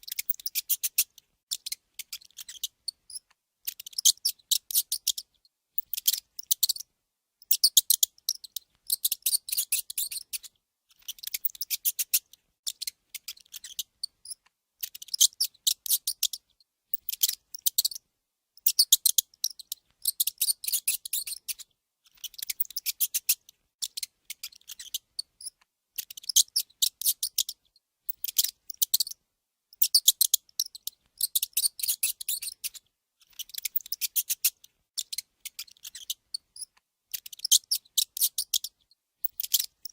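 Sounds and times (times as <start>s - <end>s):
mouse squeaking: 0.0s - 18.0s, 18.6s - 39.9s.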